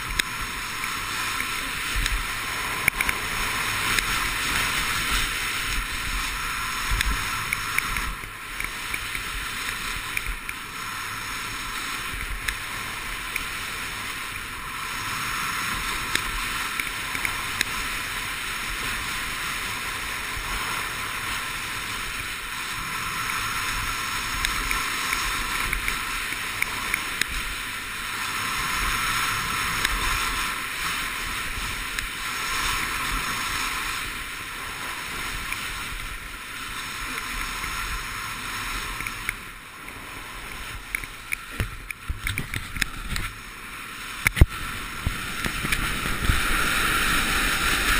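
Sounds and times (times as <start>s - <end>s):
skis sliding on snow: 0.0s - 47.9s
wind on microphone: 0.0s - 47.9s.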